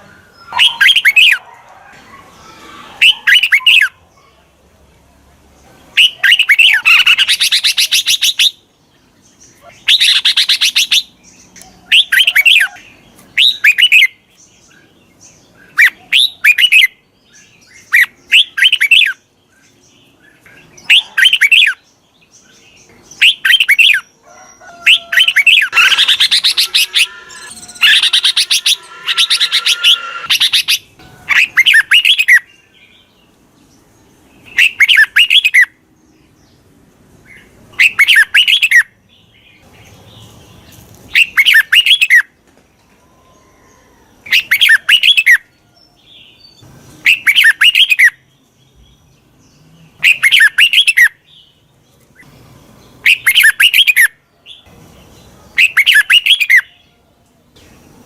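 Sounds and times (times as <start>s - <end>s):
bird chirping: 5.6s - 42.4s, 43.2s - 57.0s.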